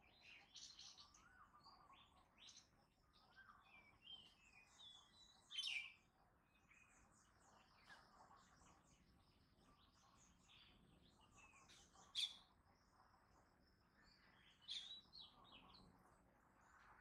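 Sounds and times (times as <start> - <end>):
birds chirping and calling: 0.0 - 6.0, 6.6 - 13.2, 14.0 - 16.0.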